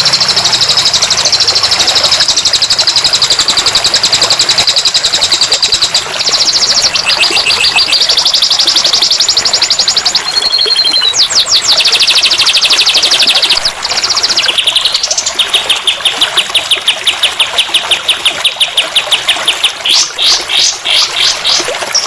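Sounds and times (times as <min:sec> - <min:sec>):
songbird trilling: 0:00.0 - 0:22.0.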